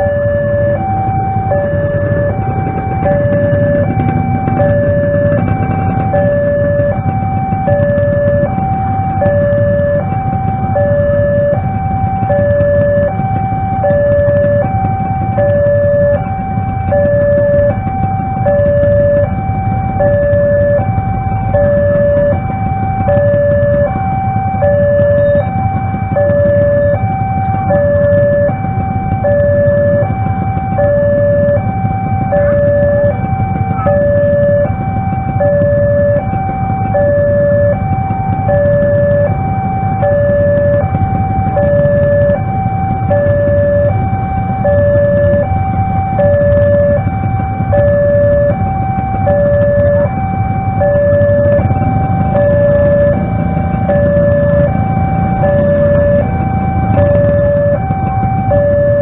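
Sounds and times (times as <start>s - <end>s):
two-tone crossing alarm: 0.0s - 59.0s.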